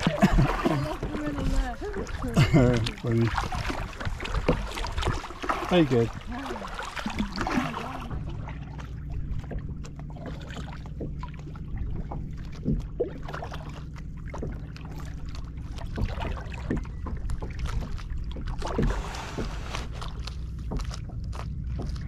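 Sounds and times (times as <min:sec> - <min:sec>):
steady low rumble: 0:00.0 - 0:22.0
water drips and splashes: 0:00.0 - 0:22.0
water lapping against hull: 0:00.0 - 0:22.0.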